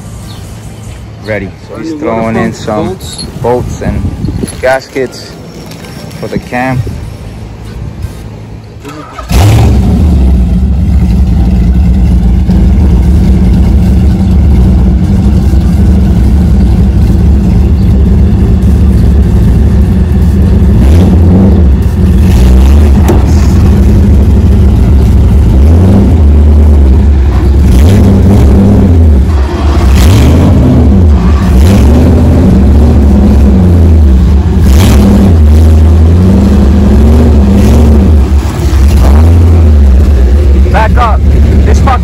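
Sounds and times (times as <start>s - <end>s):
loud engine running: 0.0s - 42.0s.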